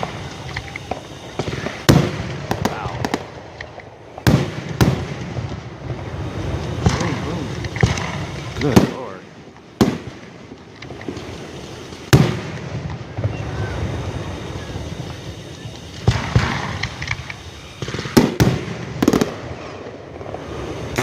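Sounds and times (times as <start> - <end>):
fireworks bursting: 0.0 - 21.0
fireworks crackling: 0.0 - 21.0.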